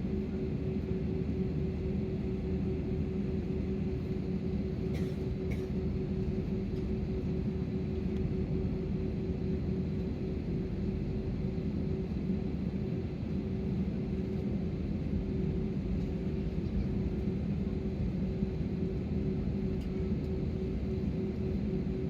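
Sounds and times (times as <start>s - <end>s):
airliner engines idling: 0.0s - 22.0s.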